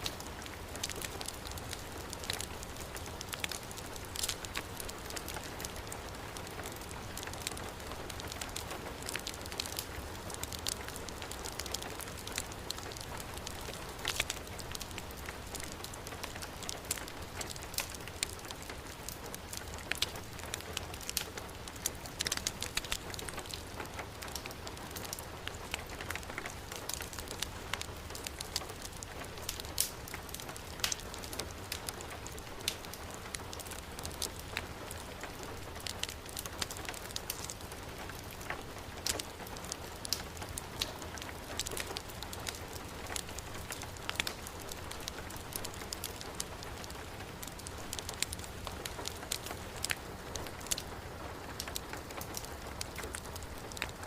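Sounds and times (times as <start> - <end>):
fire crackling: 0.0 - 54.0
heavy rain on a surface: 0.0 - 54.0.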